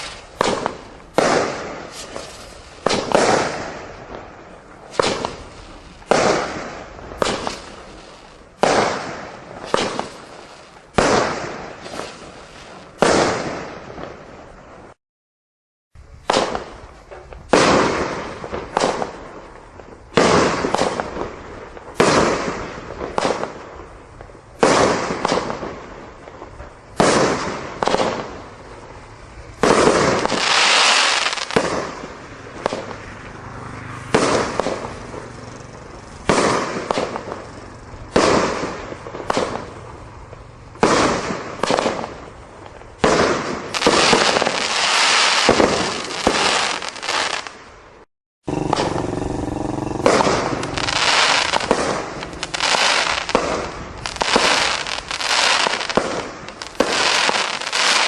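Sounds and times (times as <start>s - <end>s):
fireworks bangs crackling: 0.0s - 15.0s, 16.0s - 58.0s.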